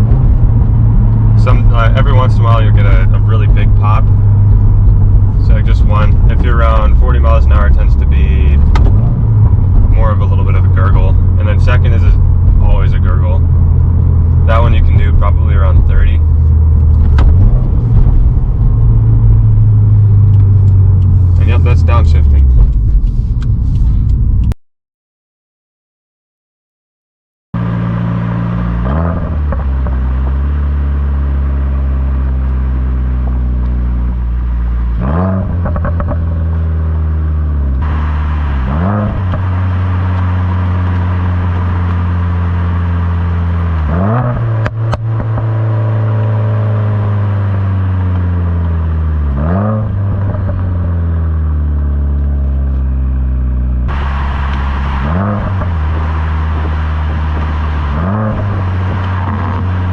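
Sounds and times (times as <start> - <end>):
car engine throttle blips: 0.0 - 24.6, 27.6 - 59.9
exhaust pops and crackle: 0.0 - 24.6, 27.6 - 59.9.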